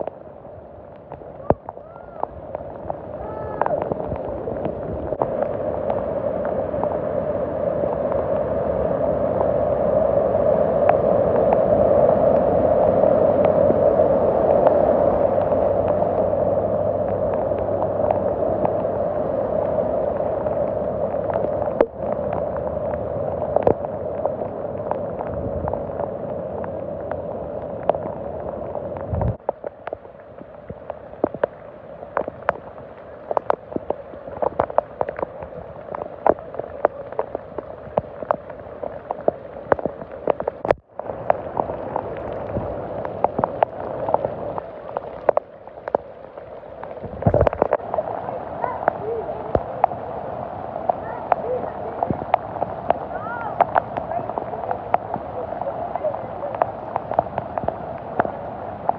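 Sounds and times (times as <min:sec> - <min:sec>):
floodwater surging and splashing: 0:00.0 - 0:58.9
rain on standing water: 0:00.0 - 0:58.9.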